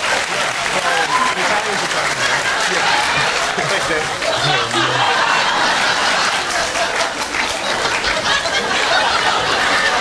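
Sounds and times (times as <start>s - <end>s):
audience applauding: 0.0s - 10.0s
audience laughing: 0.0s - 10.0s.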